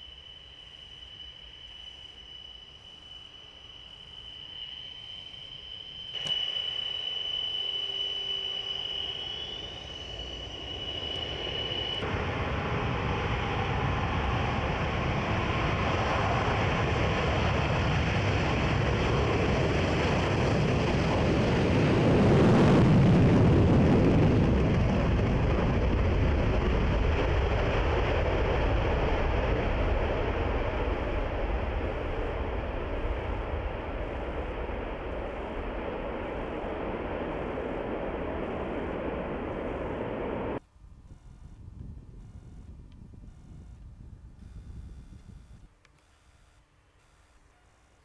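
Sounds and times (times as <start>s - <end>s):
jet roar: 0.0s - 41.6s
jet engine whine: 0.0s - 48.0s.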